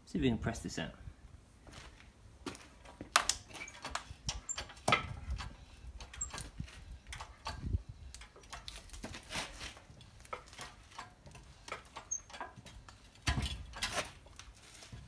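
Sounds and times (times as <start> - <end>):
metal ticking and creaking under load: 2.7 - 15.0.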